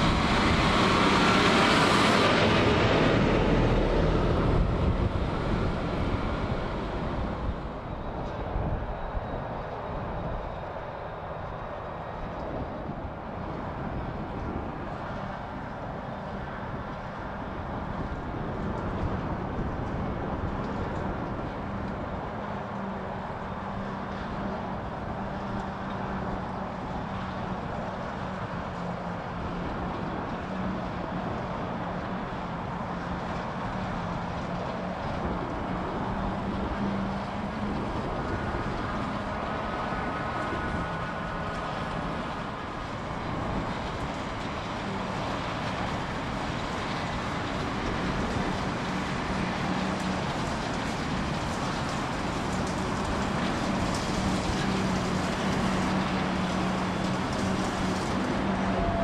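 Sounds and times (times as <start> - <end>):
tractor engine hum: 0.0 - 59.0.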